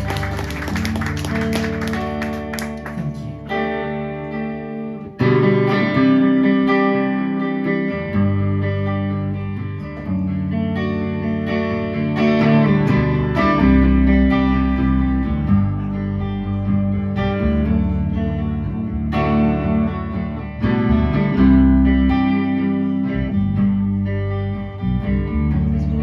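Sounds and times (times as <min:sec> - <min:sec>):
strummed guitar chords: 0:00.0 - 0:26.0.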